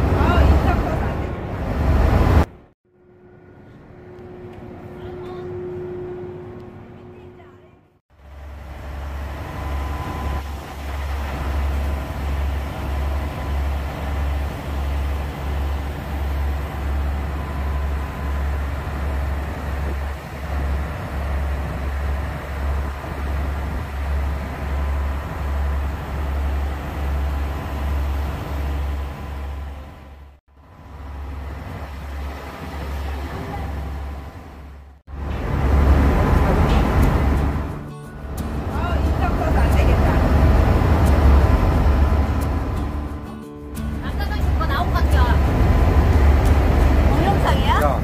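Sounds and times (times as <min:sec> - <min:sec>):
churned water: 0:00.0 - 0:02.7, 0:08.1 - 0:48.0
ferry engine droning: 0:00.0 - 0:48.0.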